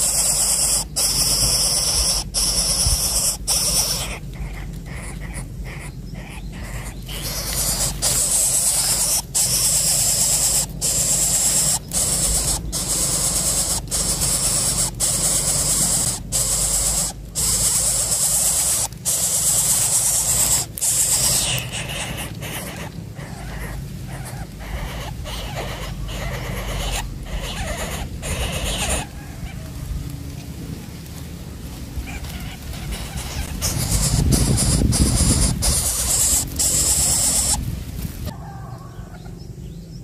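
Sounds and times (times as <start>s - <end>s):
nestling hissing begging call: 0.0s - 29.6s, 31.9s - 38.3s.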